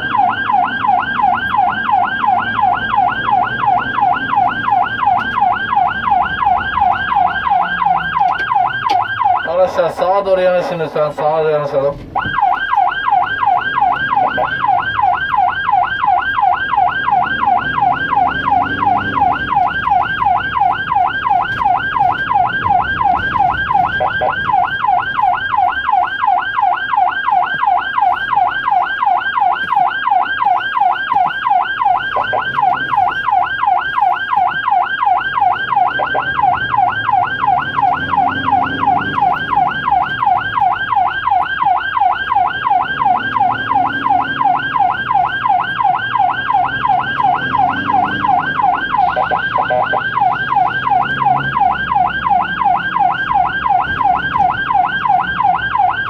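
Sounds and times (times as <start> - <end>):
ambulance siren yelping: 0.0 - 56.0
engine and road noise: 0.0 - 56.0.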